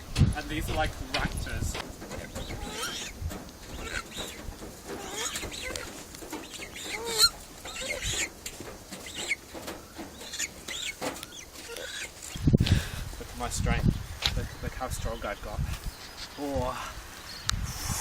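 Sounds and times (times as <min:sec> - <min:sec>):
birds squawking: 0:00.0 - 0:16.5.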